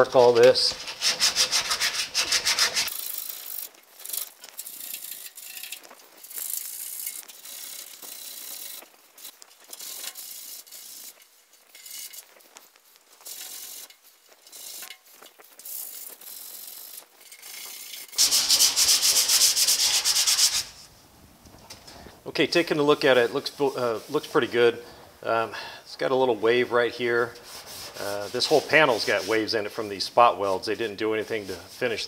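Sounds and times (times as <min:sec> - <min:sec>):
sandpaper rubbing on steel: 0:00.0 - 0:20.9, 0:26.9 - 0:32.0.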